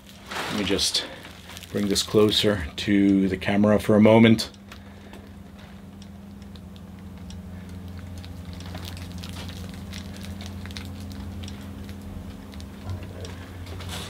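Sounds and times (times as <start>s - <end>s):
crackles and rustles of handling: 0.0s - 14.0s
steady low hum: 0.0s - 14.0s.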